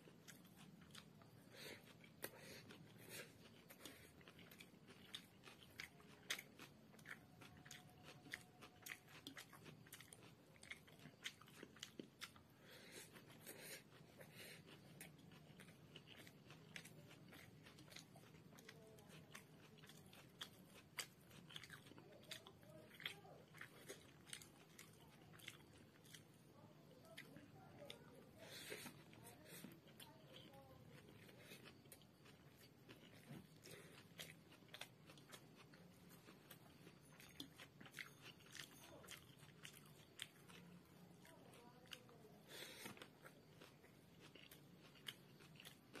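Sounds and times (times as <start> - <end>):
chewing with wet mouth clicks: 0.0 - 46.0.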